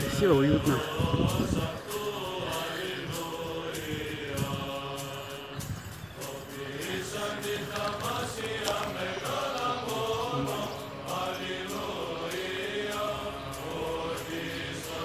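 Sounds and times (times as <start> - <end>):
voices chanting: 0.0 - 15.0.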